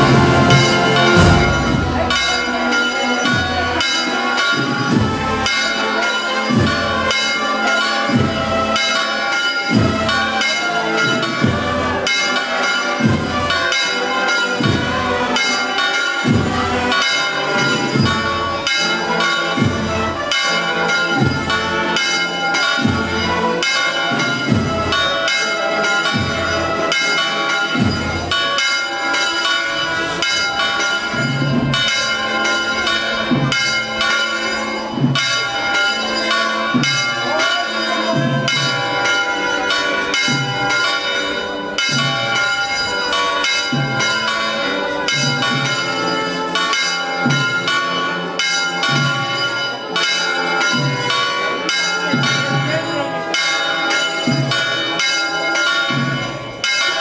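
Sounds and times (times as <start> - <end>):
church bells pealing: 0.0 - 57.0.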